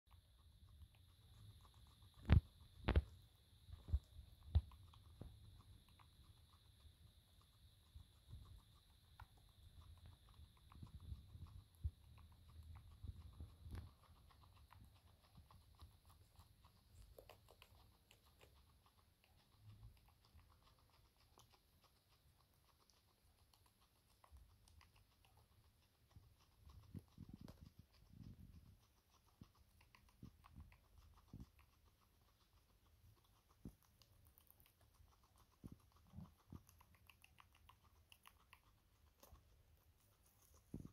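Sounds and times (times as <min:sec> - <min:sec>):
guinea pig chewing grass: 0:00.1 - 0:40.9.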